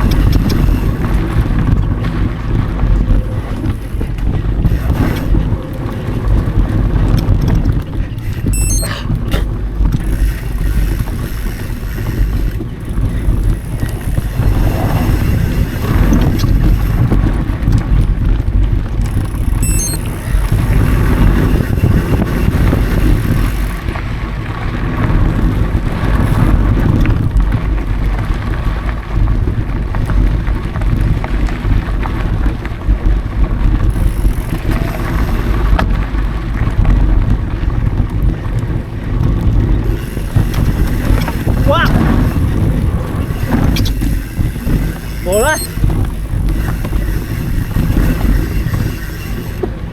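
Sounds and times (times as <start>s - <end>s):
bike rattling over bumps: 0.0s - 49.9s
bike tyres rolling on dirt: 0.0s - 49.9s
wind buffeting microphone: 0.0s - 49.9s.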